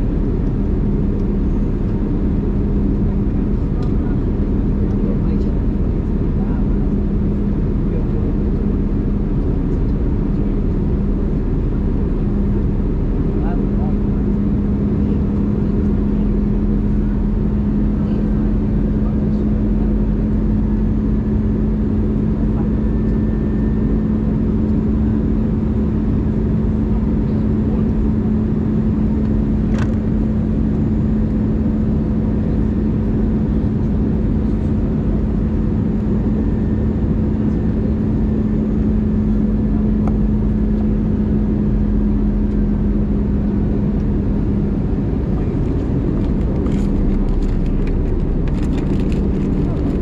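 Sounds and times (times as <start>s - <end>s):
jet engine and airflow drone: 0.0s - 50.0s.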